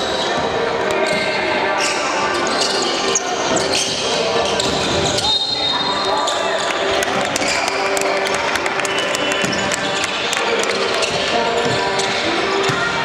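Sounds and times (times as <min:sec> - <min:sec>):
gym crowd din: 0:00.0 - 0:13.0.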